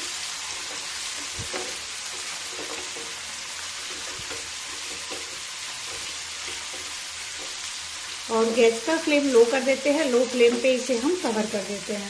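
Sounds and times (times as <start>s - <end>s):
onion and tomato sizzling in oil: 0.0s - 12.0s.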